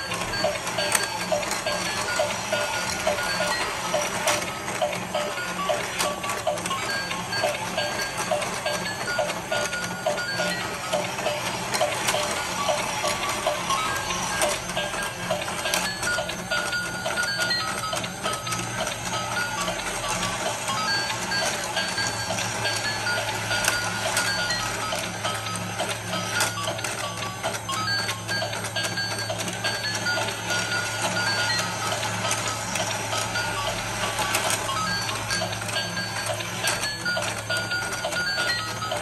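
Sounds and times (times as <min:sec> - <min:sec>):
tinny electronic beeping tune: 0:00.0 - 0:39.0
toy motor humming: 0:00.0 - 0:39.0.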